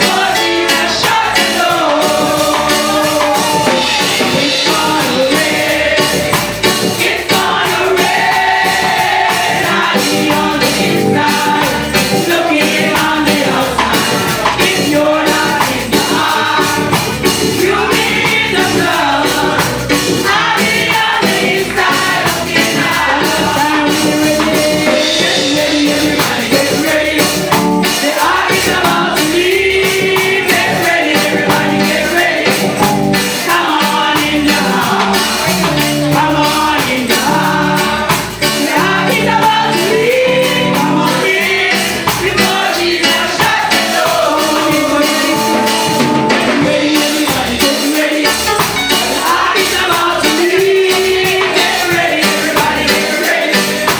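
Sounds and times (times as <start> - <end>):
drums: 0.0 - 53.9
gospel choir singing with band: 0.0 - 53.9.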